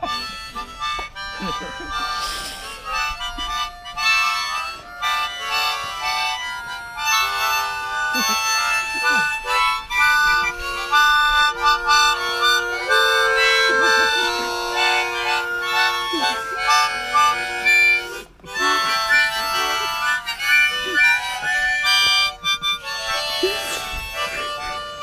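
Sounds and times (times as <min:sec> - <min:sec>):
harmonica music: 0:00.0 - 0:25.0.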